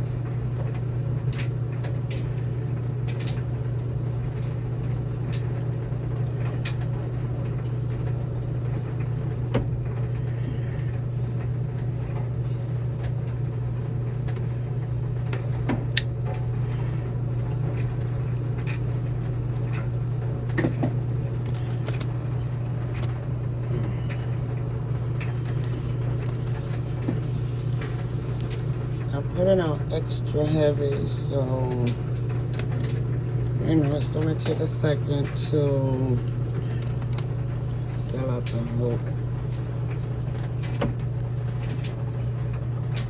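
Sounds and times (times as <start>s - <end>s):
low hum: 0.0s - 43.0s
washing machine filling with water: 0.0s - 43.0s.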